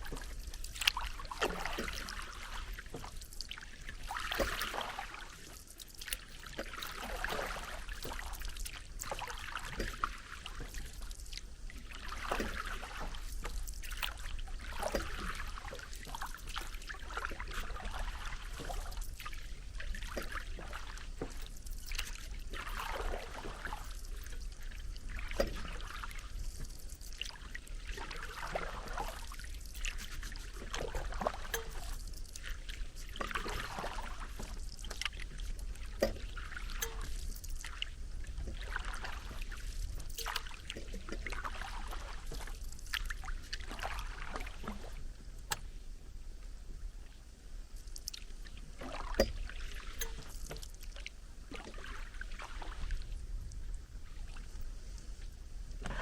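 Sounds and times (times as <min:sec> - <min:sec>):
water splashing and trickling: 0:00.0 - 0:45.7, 0:47.6 - 0:56.0.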